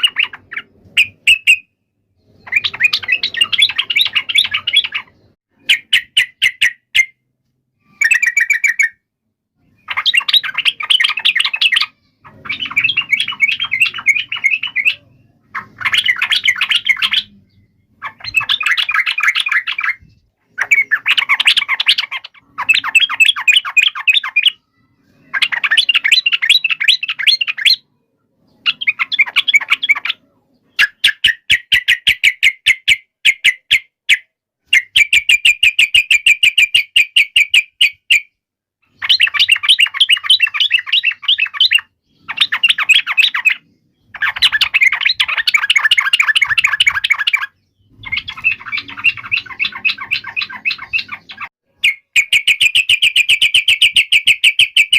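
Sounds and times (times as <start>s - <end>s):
bird chattering in rapid bursts: 0.0s - 7.2s, 7.8s - 9.0s, 9.6s - 54.9s.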